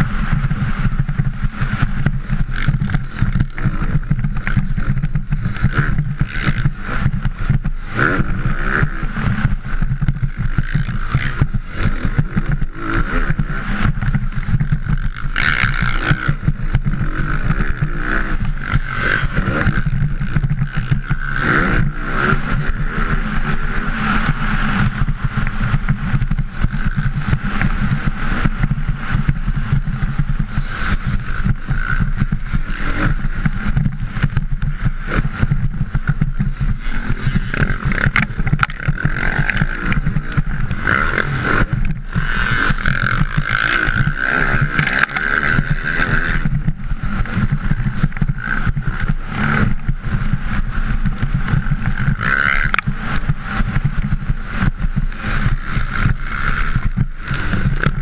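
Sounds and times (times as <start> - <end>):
motocross bike engine running hard: 0.0 - 58.0.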